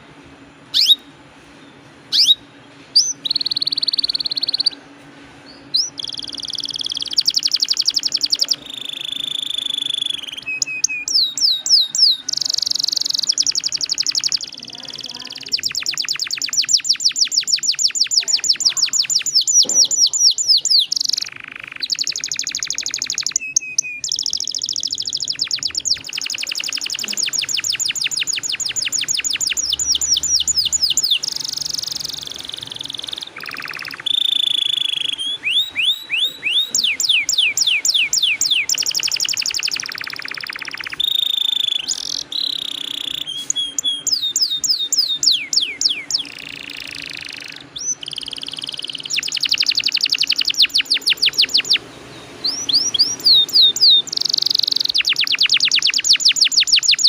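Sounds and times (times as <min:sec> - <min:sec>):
canary singing trills: 0:00.6 - 0:57.0.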